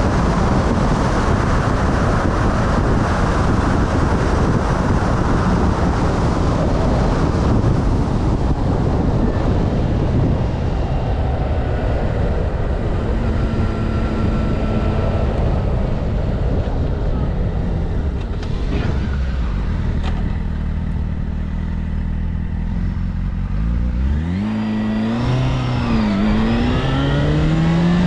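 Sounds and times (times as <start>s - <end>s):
motorcycle engine: 0.0s - 28.0s
wind rushing over microphone: 0.0s - 28.0s.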